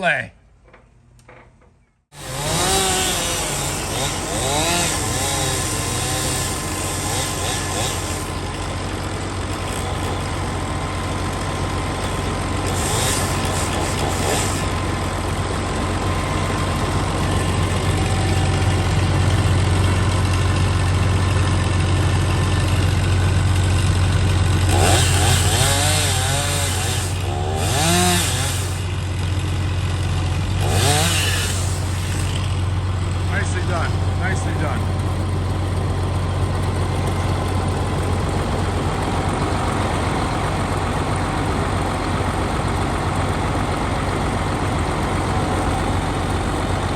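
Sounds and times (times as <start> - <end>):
engine machinery droning: 2.1 - 46.9.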